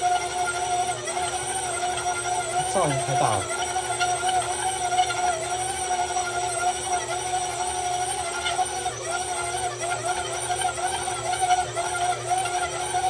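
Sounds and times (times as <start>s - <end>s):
stand mixer kneading dough: 0.0s - 13.0s.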